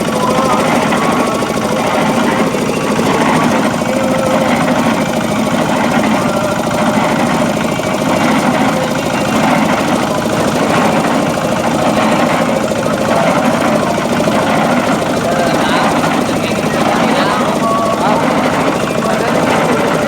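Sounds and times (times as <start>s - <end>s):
cement mixer diesel engine chugging: 0.0s - 20.0s.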